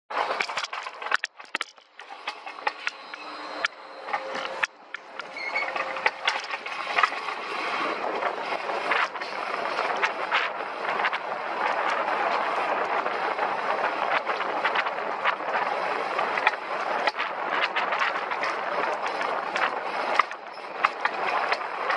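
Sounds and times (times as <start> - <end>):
coaster sled wheels rumbling: 0.1 - 21.9.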